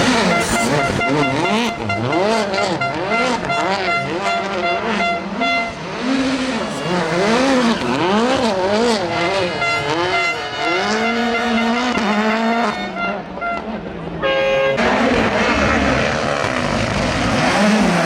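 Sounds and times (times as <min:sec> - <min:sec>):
rally car engine revving: 0:00.0 - 0:14.2, 0:14.8 - 0:18.0.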